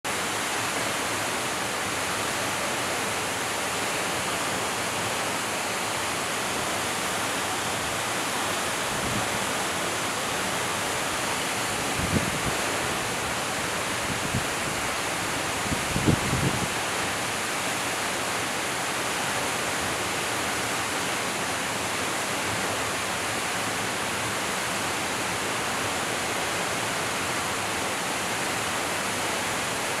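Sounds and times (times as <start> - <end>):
waterfall rushing: 0.1 - 30.0.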